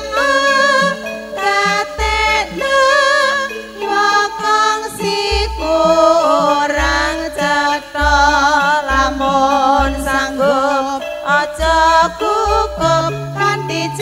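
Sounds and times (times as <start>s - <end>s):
band accompaniment: 0.0s - 14.0s
woman singing with vibrato: 0.0s - 14.0s.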